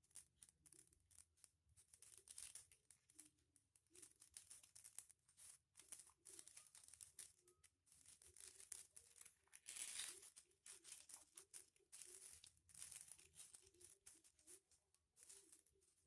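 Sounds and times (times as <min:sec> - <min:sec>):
foil paper crinkling: 0:00.0 - 0:16.0.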